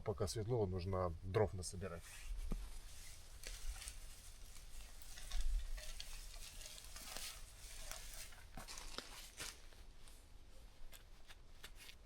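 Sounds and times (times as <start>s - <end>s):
rustle of brush and leaf litter: 2.0s - 12.0s.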